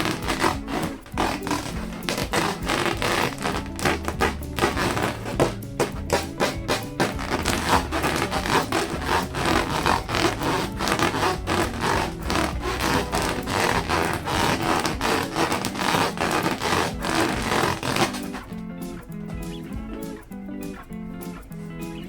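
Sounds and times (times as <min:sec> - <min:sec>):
hands rubbing balloons: 0:00.0 - 0:20.2
faint background music: 0:00.0 - 0:22.0.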